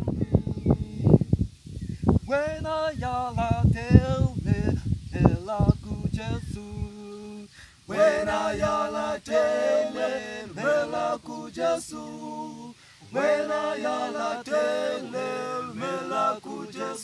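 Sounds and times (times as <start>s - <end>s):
male a cappella group singing: 2.8s - 17.0s.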